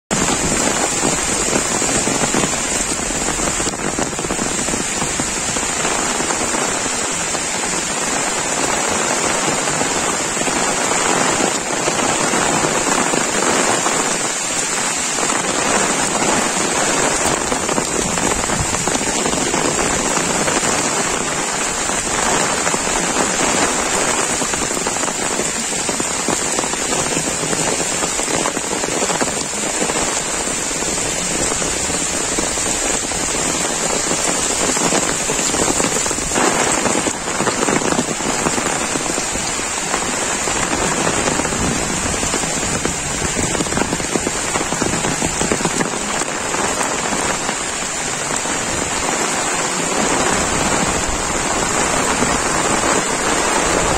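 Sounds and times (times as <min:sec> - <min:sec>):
heavy rain on leaves: 0:00.0 - 0:53.9.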